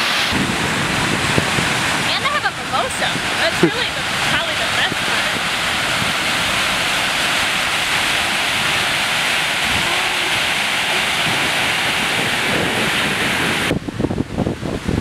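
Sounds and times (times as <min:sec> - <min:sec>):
flood water rushing: 0:00.0 - 0:15.0
wind buffeting microphone: 0:00.0 - 0:15.0.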